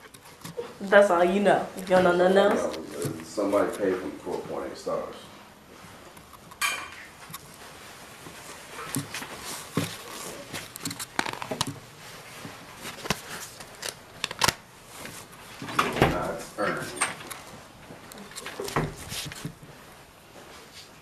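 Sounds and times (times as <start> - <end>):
close rustling: 0.0 - 21.0.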